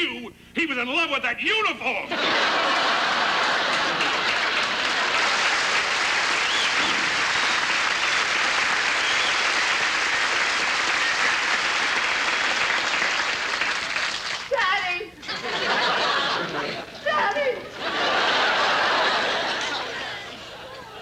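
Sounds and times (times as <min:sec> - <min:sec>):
audience applauding: 0:02.2 - 0:14.6, 0:15.5 - 0:21.0.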